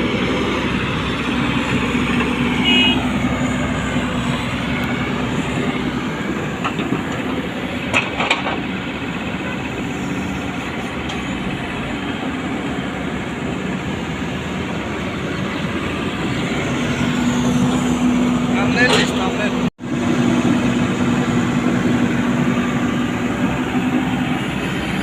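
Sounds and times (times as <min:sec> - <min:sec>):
diesel engine running hard: 0:00.0 - 0:25.0.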